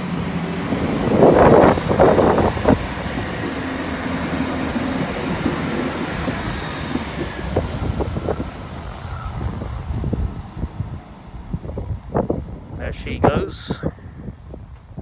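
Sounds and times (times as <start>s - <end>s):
train diesel engines running: 0.0s - 15.0s.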